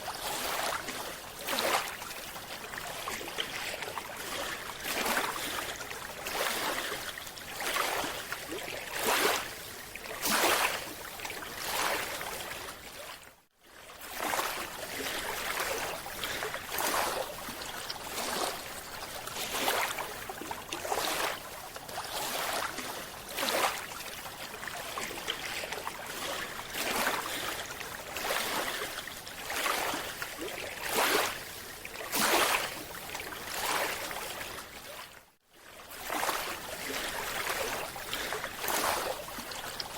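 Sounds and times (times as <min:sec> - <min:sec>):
water sloshing and rushing: 0:00.0 - 0:39.9.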